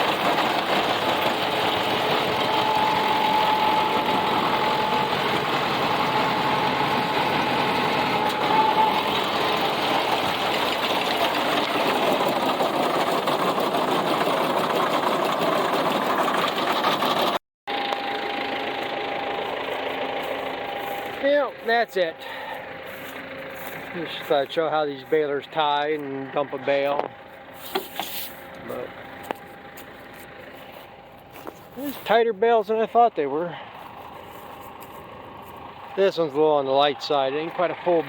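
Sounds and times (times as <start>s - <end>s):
baler machinery clattering: 0.0s - 30.6s.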